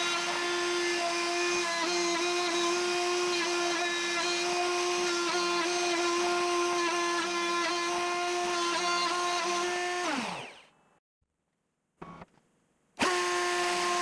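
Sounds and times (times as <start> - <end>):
router spindle whining: 0.0 - 11.0, 13.0 - 14.0.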